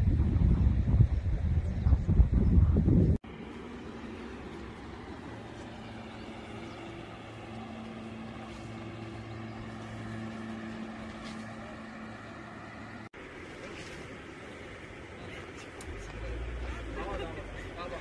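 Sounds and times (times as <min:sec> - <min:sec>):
distant motor engine humming: 0:03.2 - 0:18.0.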